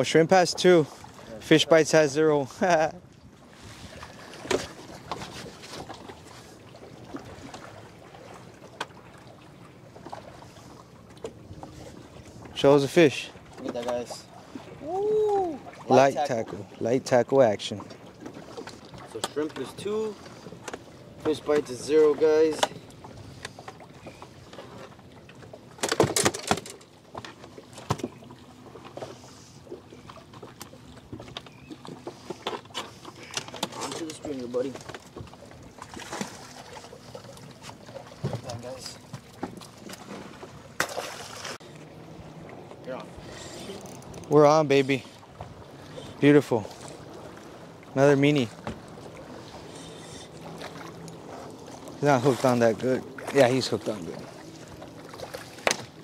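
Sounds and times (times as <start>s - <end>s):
water noise: 0.0s - 56.0s
wind: 0.0s - 56.0s.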